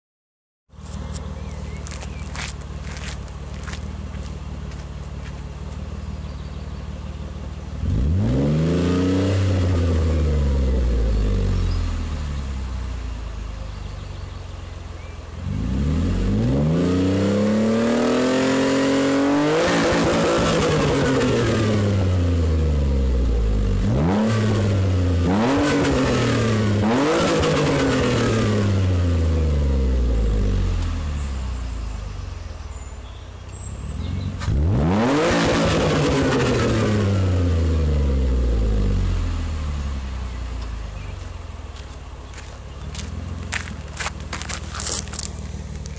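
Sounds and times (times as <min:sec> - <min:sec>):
car engine idling and revving: 0:00.7 - 0:45.9.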